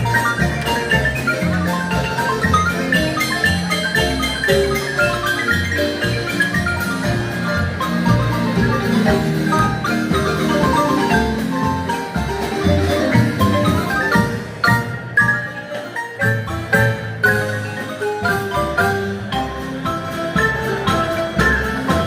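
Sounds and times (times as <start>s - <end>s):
marimba dance music: 0.0s - 22.0s.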